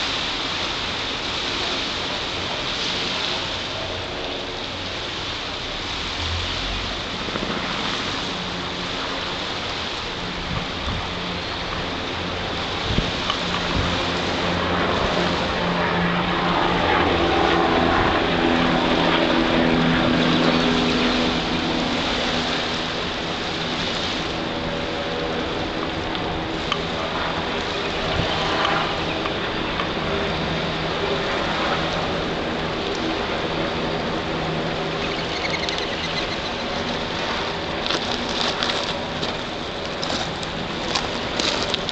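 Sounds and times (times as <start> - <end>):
low steady hum: 0.0 - 41.9
passing engine drone: 0.0 - 41.9
river water lapping at shoreline: 0.0 - 41.9
steady rushing noise: 0.0 - 41.9.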